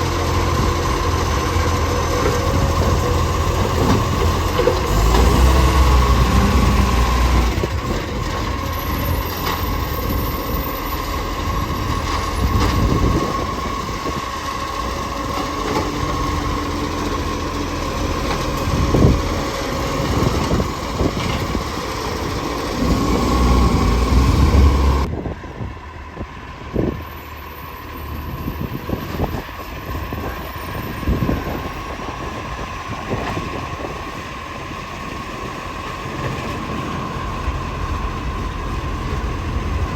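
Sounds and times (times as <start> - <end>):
garbage truck engine rumbling: 0.0 - 39.9.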